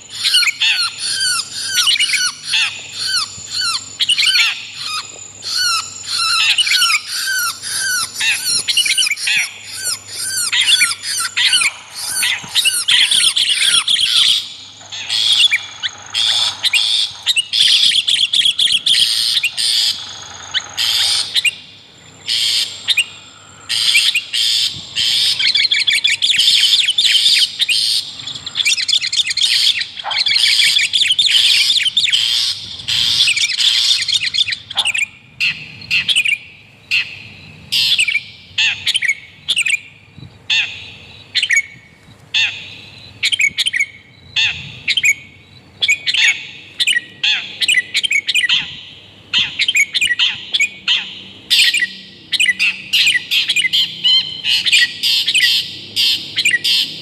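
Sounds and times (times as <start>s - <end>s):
birds chattering and calling: 0.0s - 57.0s.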